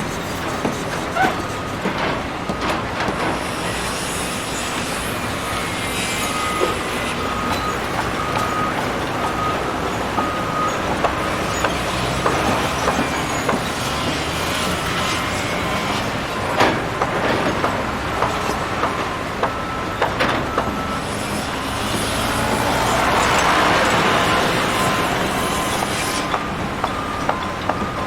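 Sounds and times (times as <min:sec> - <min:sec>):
demolition machinery: 0:00.0 - 0:28.0
high-pitched squeal: 0:03.4 - 0:17.4, 0:18.2 - 0:28.0.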